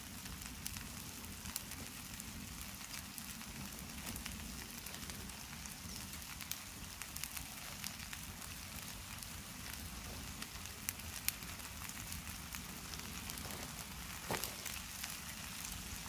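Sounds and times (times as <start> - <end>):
noodles sizzling in a pan: 0.0 - 16.0
sharp crackles: 0.0 - 16.0.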